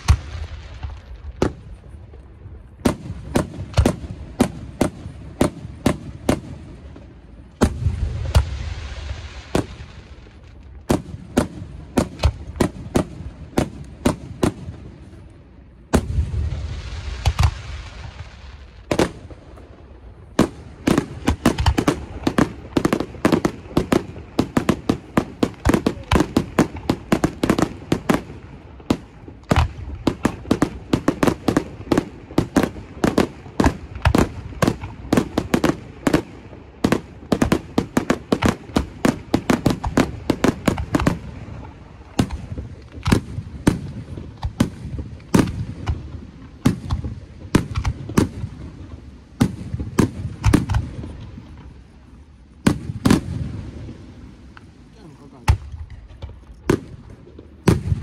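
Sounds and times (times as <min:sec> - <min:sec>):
fireworks bursts and bangs: 0:00.0 - 0:58.0.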